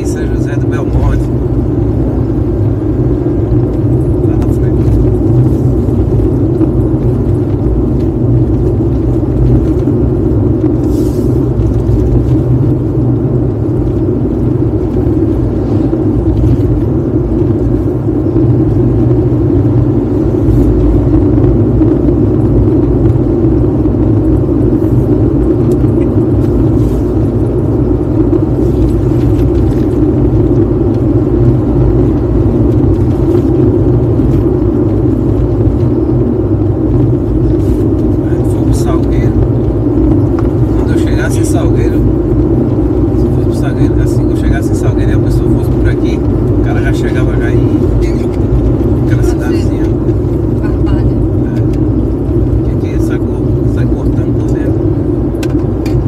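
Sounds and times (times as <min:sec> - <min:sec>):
car driving on highway: 0:00.0 - 0:56.0
tyre and engine rumble: 0:00.0 - 0:56.0.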